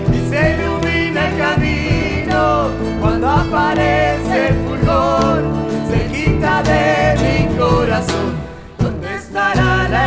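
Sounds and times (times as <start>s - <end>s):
instrumental accompaniment: 0.0s - 10.0s
person singing: 0.0s - 10.0s.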